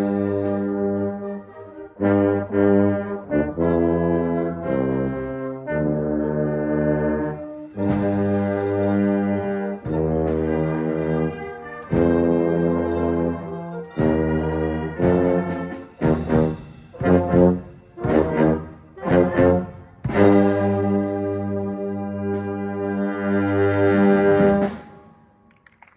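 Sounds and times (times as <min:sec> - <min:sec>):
tuba playing low notes: 0:00.0 - 0:25.3.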